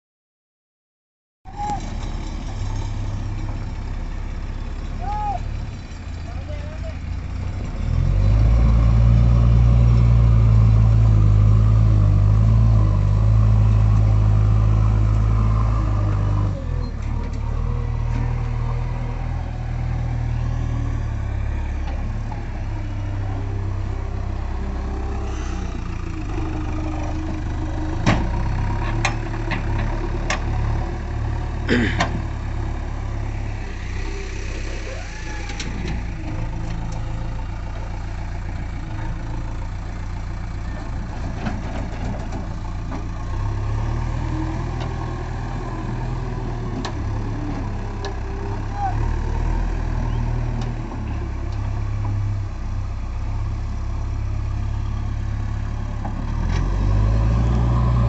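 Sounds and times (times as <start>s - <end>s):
diesel engine running: 1.6s - 58.0s.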